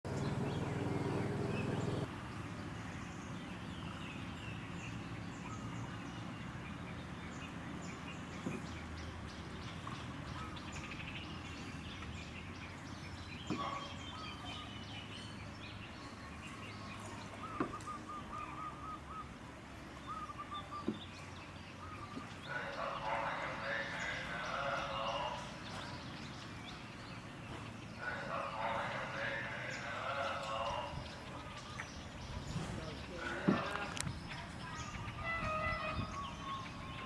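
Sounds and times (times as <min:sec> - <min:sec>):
birds chirping and calling: 0:00.1 - 0:37.0.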